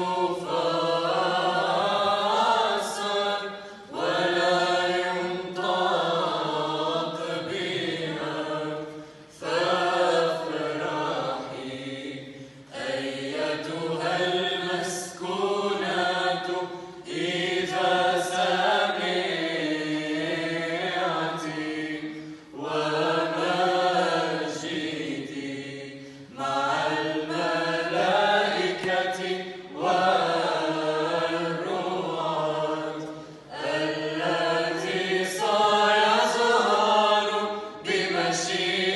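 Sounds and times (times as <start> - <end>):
youth choir chanting a cappella: 0.0 - 38.9.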